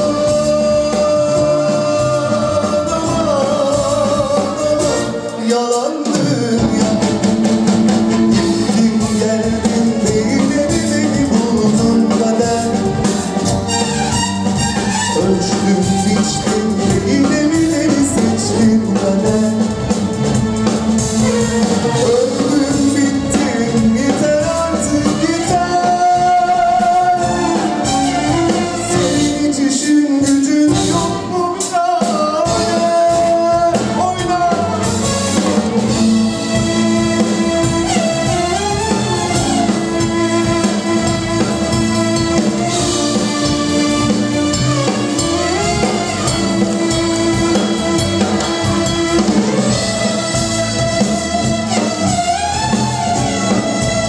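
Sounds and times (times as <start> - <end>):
man singing: 0.0 - 51.0
live pop band playing: 0.0 - 54.0.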